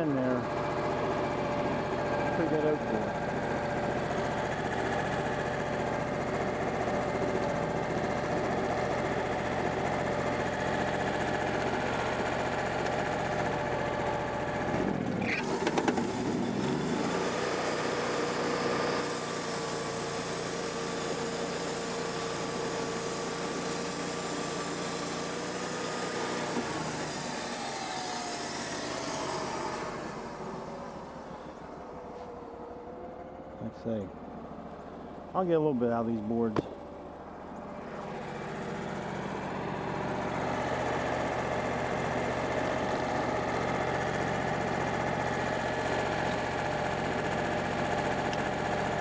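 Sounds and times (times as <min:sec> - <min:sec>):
band sawmill engine running: 0:00.0 - 0:49.0.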